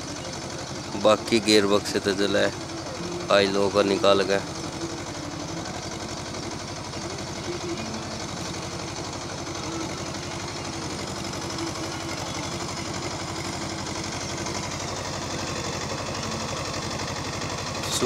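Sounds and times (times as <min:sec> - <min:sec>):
tractor diesel engine chugging: 0:00.0 - 0:18.0.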